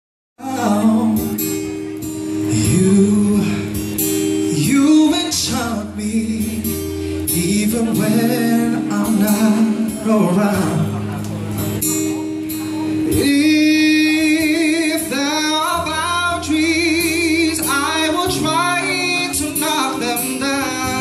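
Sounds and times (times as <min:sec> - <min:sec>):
man singing: 0:00.4 - 0:11.2, 0:12.9 - 0:21.0
acoustic guitar: 0:00.4 - 0:21.0.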